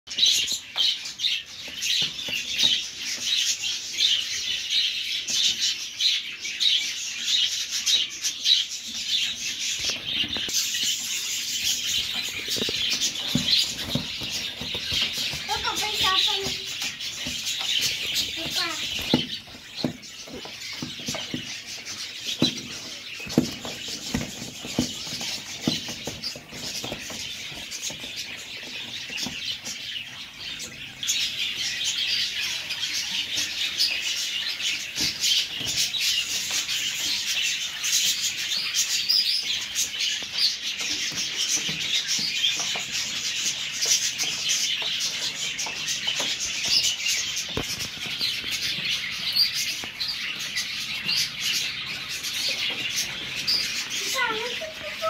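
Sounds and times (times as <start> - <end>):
small birds twittering: 0.1 - 55.0.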